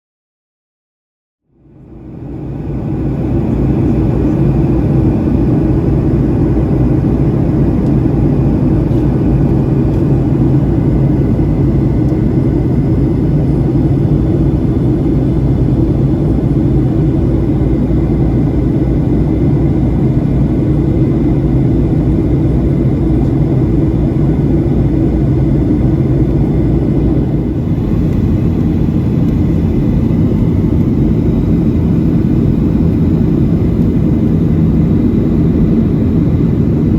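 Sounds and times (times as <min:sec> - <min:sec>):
low jet engine rumble: 0:01.4 - 0:36.9.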